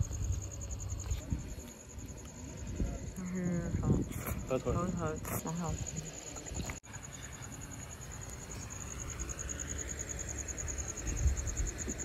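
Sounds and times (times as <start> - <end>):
cricket chirping trill: 0.0 - 12.0.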